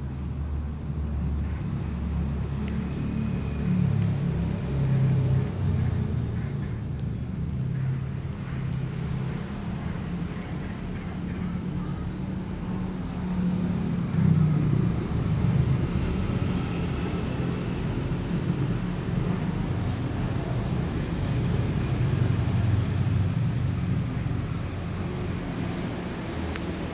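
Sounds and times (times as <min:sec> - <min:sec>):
engine running low rumble: 0:00.0 - 0:26.9.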